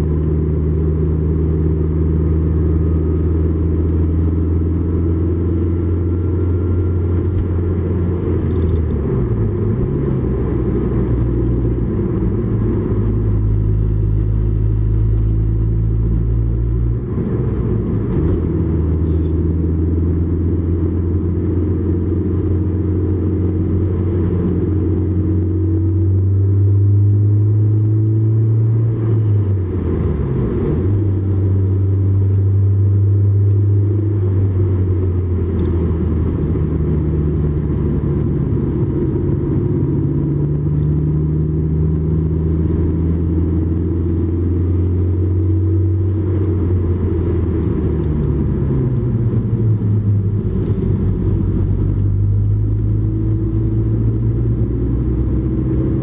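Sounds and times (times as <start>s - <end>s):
car engine: 0.0s - 56.0s
road noise: 0.0s - 56.0s.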